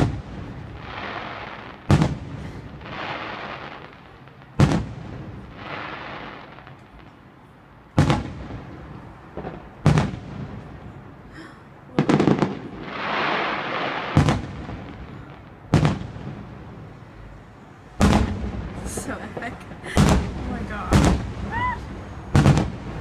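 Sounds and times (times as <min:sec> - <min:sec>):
fireworks booming: 0:00.0 - 0:07.2, 0:07.9 - 0:23.0
fizzing crackle of fireworks: 0:00.0 - 0:23.0.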